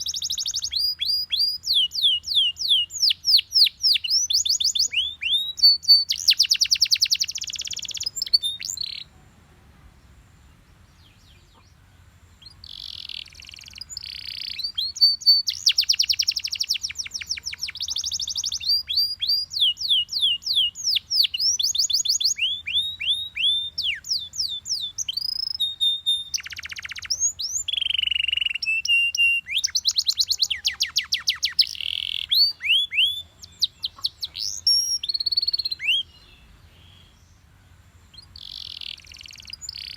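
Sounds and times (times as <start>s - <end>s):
canary singing: 0.0s - 9.2s, 10.4s - 39.9s.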